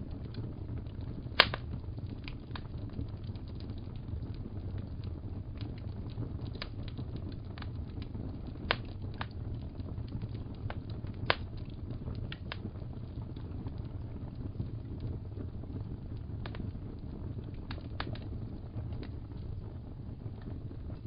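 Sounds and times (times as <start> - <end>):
loud fire pops: 0.0 - 21.0
low rumble of flames: 0.0 - 21.0
wood fire crackling: 0.0 - 21.0.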